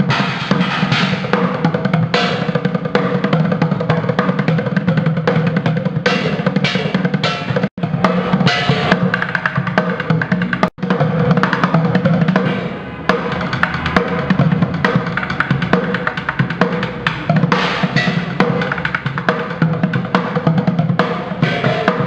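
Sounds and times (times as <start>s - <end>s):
fast drum rhythm: 0.0s - 22.0s.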